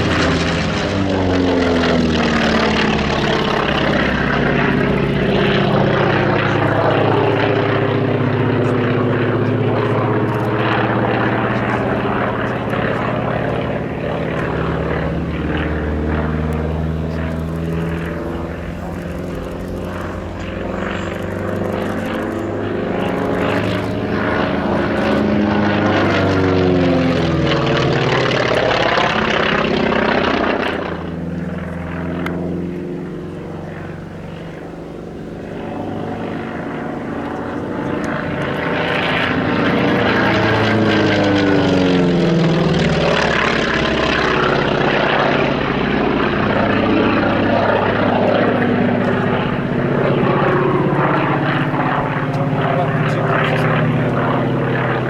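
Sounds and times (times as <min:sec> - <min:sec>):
propeller aircraft flying past: 0:00.0 - 0:55.0.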